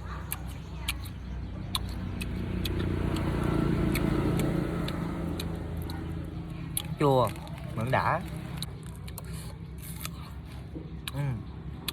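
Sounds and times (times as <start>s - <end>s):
vehicle engine humming: 0.0s - 11.9s.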